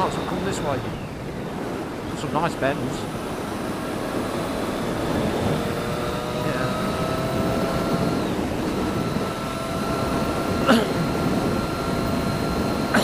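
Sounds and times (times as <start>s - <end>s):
motorcycle engine accelerating: 0.0s - 13.0s
wind and road rush: 0.0s - 13.0s.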